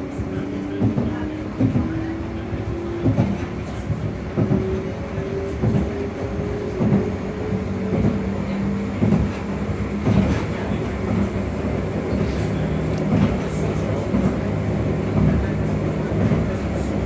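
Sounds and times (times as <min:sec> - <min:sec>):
tram motor whine: 0:00.0 - 0:17.0
tram running rumble: 0:00.0 - 0:17.0.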